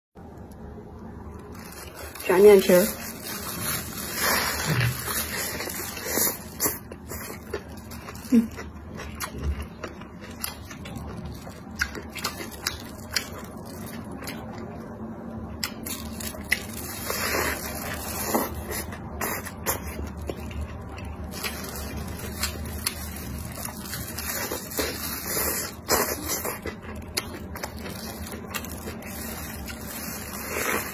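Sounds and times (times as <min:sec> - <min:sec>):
crunching and crackling: 0:00.4 - 0:14.8, 0:15.5 - 0:30.9
wet chewing: 0:03.1 - 0:14.6, 0:15.6 - 0:30.9.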